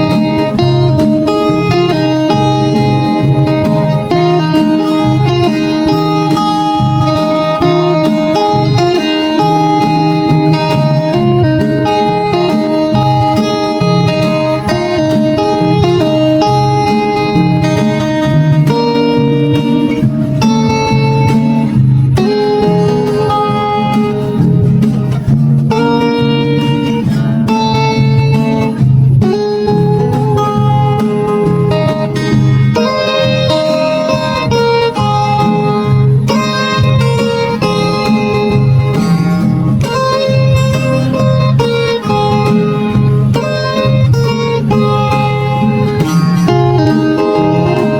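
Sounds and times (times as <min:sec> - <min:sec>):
bass line: 0:00.0 - 0:47.9
plucked guitar-like melody: 0:00.0 - 0:47.9.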